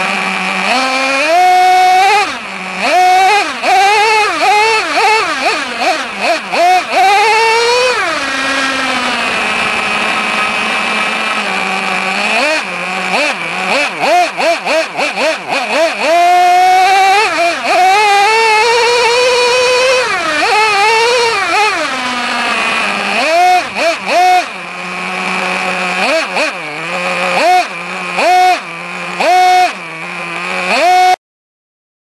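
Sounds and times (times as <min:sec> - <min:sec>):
nitro engine revving: 0:00.0 - 0:31.2.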